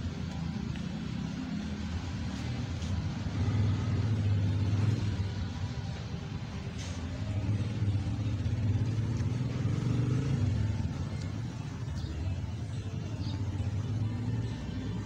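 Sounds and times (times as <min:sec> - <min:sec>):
low engine-like rumble: 0:00.0 - 0:15.0.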